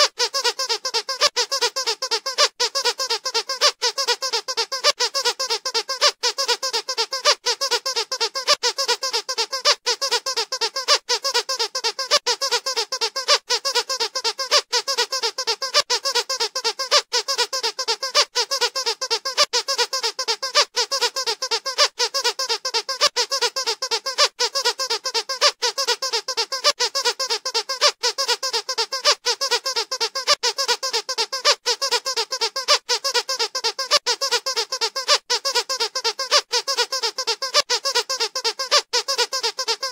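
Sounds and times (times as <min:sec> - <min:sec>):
squeaky dog toys squeaking: 0:00.0 - 0:39.9.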